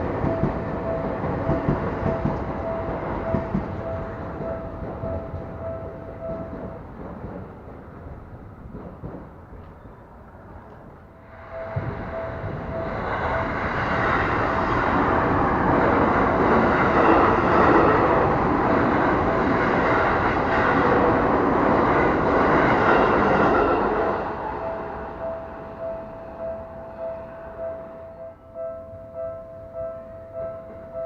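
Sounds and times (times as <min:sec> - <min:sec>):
crossing warning bell ringing: 0:00.0 - 0:07.0, 0:11.2 - 0:31.0
train rumbling past: 0:00.0 - 0:31.0.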